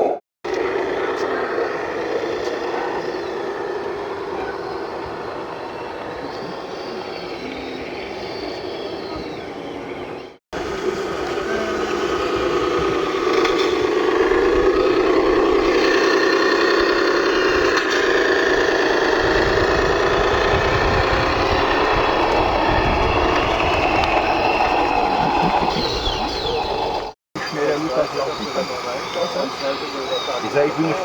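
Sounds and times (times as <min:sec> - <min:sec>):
model machinery motor whining: 0:00.5 - 0:31.0.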